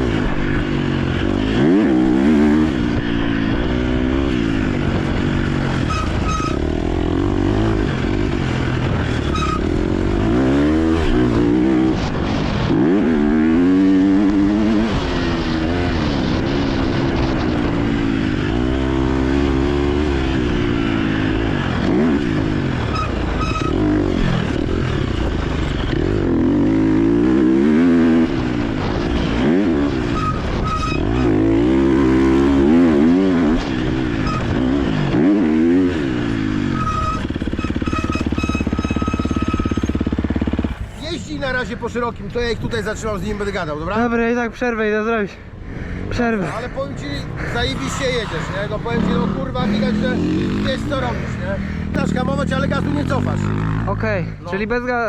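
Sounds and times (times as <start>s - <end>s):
motocross engine revving: 0.0s - 41.7s, 45.8s - 55.0s.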